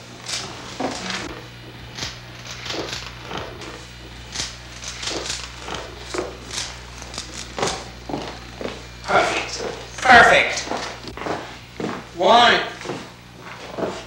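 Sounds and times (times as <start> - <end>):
steady low hum: 0.0 - 14.0
people rustling and knocking: 0.2 - 14.0.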